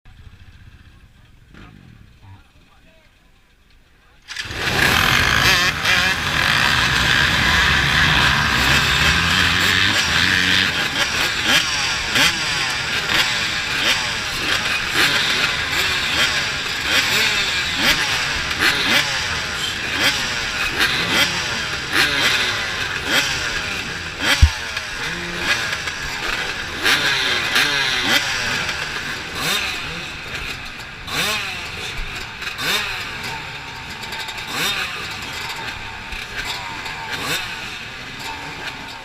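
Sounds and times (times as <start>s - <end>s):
dirt bike engines revving: 0.1s - 3.2s, 4.3s - 39.0s.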